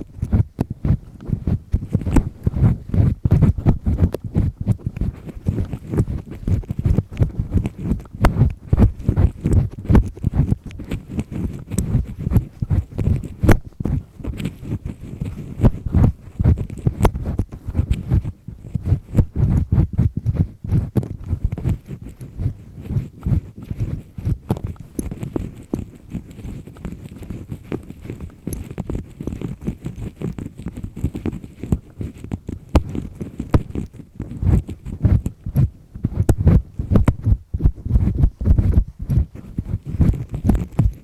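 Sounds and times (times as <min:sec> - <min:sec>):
earpick scraping in ear canal: 0:00.0 - 0:41.0.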